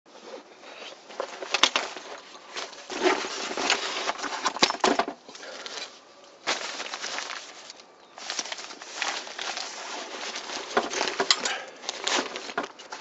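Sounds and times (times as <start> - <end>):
fabric rustling: 0.1 - 4.8, 5.4 - 13.0.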